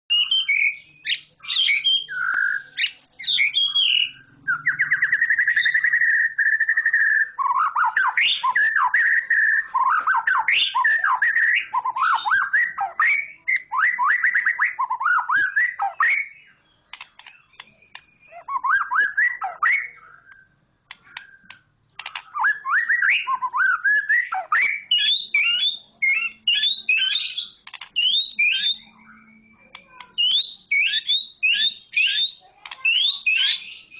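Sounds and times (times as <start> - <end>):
bird singing varied song: 0.0 - 33.9.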